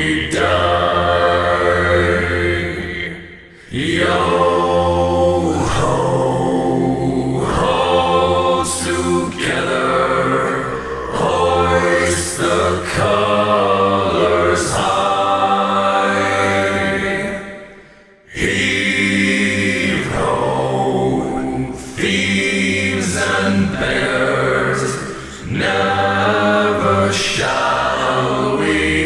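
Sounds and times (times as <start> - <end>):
men singing a cappella chant: 0.0 - 29.0.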